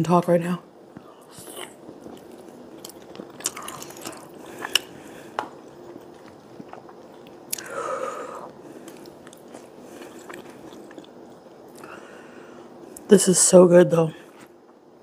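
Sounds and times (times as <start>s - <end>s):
person chewing noodles: 1.0s - 13.1s.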